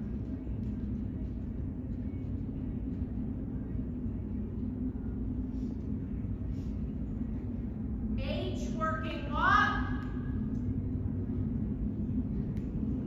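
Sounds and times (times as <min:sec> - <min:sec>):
constant hum: 0:00.0 - 0:13.0
low rumble: 0:00.0 - 0:13.0.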